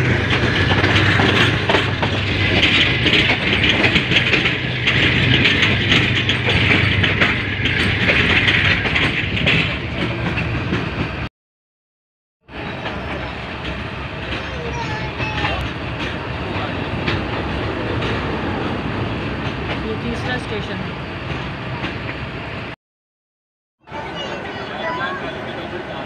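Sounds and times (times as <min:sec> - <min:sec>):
train rushing noise: 0:00.0 - 0:11.3, 0:12.5 - 0:22.8, 0:23.8 - 0:26.0
wheels clattering over rail joints: 0:00.0 - 0:11.3, 0:12.5 - 0:22.4.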